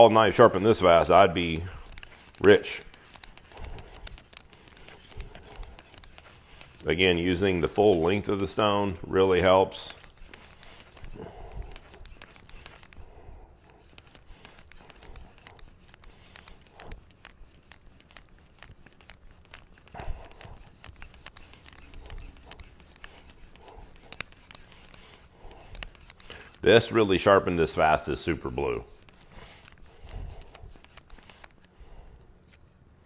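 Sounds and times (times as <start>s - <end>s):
knife scraping on a whetstone: 0.0s - 31.7s.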